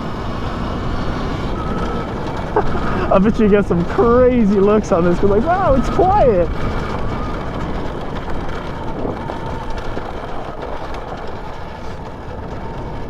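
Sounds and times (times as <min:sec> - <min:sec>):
dirt bike rolling over trail: 0:00.0 - 0:13.0
electric motor whine: 0:00.0 - 0:13.0.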